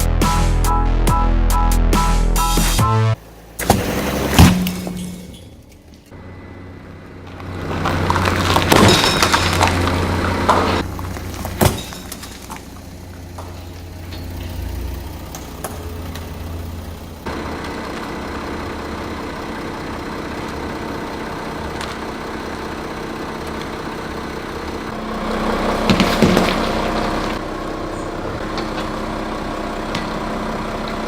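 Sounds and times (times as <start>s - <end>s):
car engine idling: 2.4s - 31.0s.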